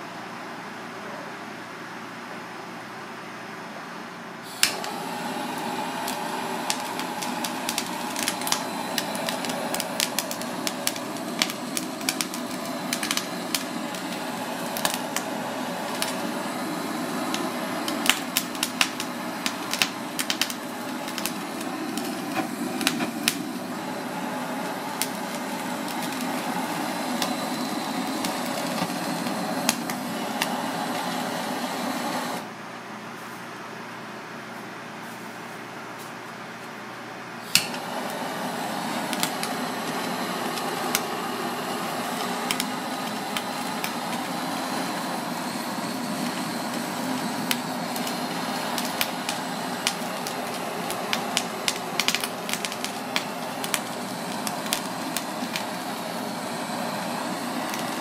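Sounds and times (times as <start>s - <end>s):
blowtorch flame roaring: 4.4s - 32.5s, 37.4s - 58.0s
food crackling and popping: 4.5s - 32.4s, 37.5s - 58.0s.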